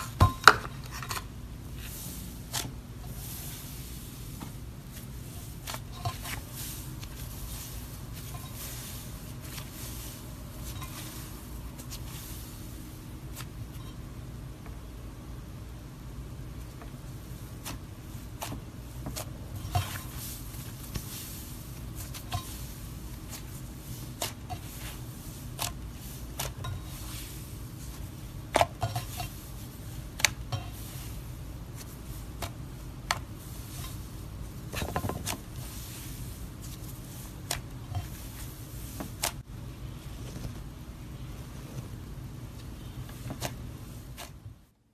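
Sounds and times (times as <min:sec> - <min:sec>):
low background hum: 0:00.0 - 0:44.9.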